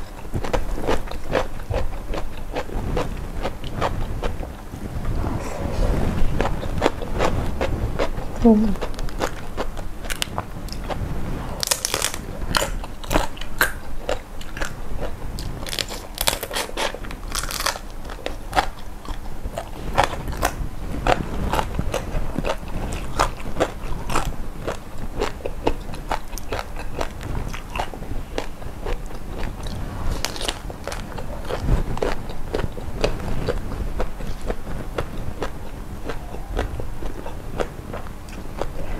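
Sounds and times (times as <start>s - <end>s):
person chewing crunchy food: 0.0s - 11.0s, 11.6s - 38.9s.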